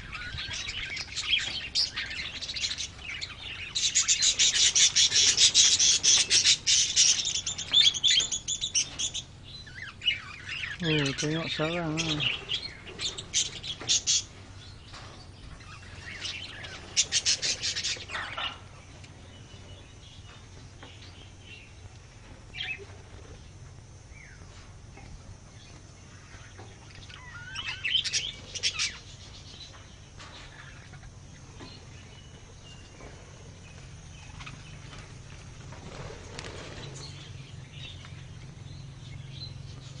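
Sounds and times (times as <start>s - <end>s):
faint low hum: 0.0s - 40.0s
small birds chirping: 0.0s - 40.0s.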